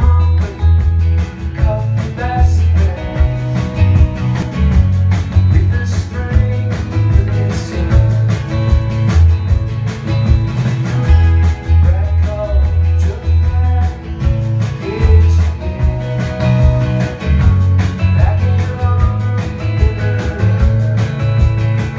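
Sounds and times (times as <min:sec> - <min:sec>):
bass guitar: 0:00.0 - 0:21.9
drums with steady beat: 0:00.0 - 0:21.9
electric guitar: 0:00.0 - 0:21.9
strummed acoustic guitar: 0:00.0 - 0:21.9.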